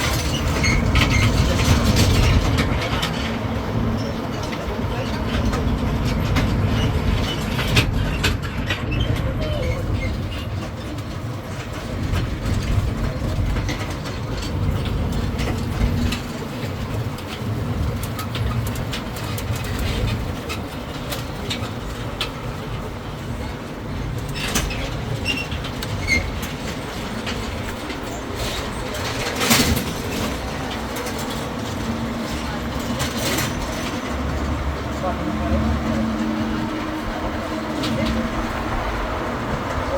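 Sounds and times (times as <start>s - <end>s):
carriages rattling and clicking: 0.0s - 39.9s
low engine and tyre rumble: 0.0s - 39.9s.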